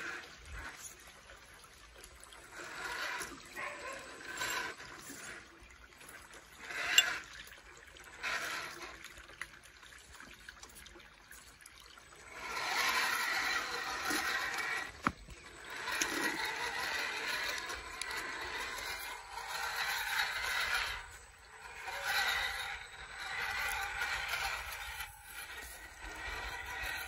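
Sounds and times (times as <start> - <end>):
rc truck scraping over stones: 0.0 - 9.7, 10.7 - 27.0
water trickling: 0.0 - 27.0.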